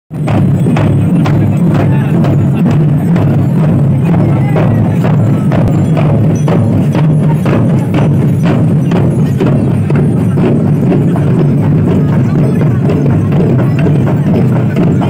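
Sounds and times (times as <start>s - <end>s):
barrel drums beating: 0.1s - 15.0s.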